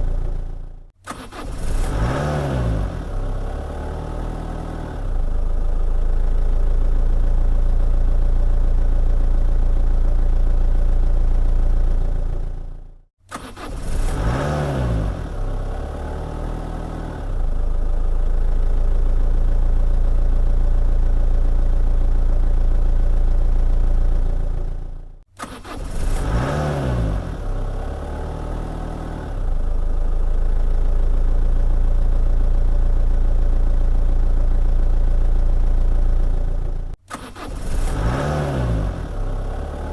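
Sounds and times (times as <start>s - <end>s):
car engine starting and idling: 0.0s - 39.9s.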